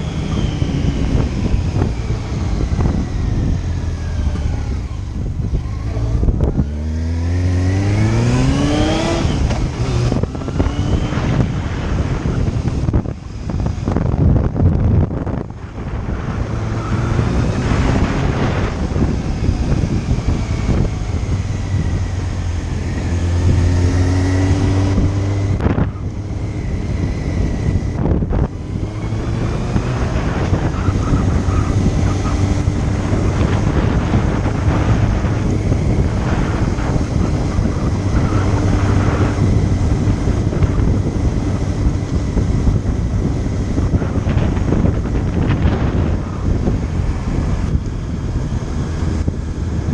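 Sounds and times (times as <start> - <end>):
motorcycle engine accelerating: 0.0 - 49.9
wind buffeting microphone: 0.0 - 49.9.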